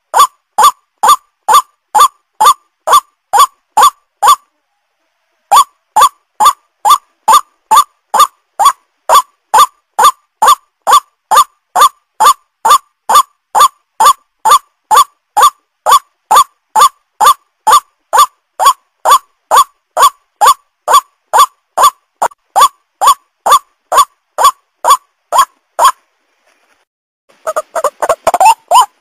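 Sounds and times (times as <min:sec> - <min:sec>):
waterhen calls: 0:00.0 - 0:26.0, 0:27.3 - 0:29.0.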